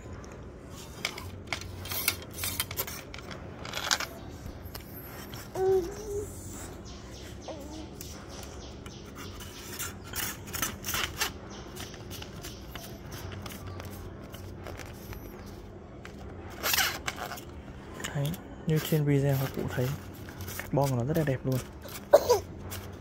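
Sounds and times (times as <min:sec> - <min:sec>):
rod sections rubbing: 0:00.6 - 0:06.9, 0:07.7 - 0:23.0.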